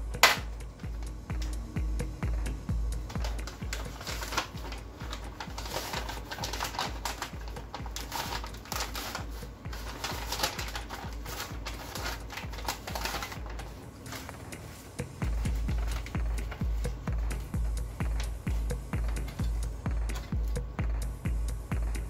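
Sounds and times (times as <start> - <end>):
background music with bass pulse: 0.0 - 22.0.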